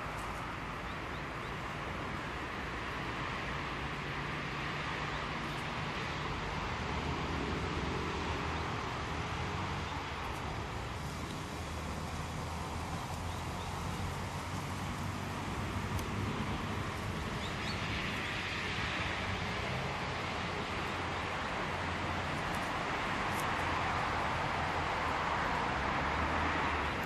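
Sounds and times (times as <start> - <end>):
distant road traffic hum: 0.0 - 27.0.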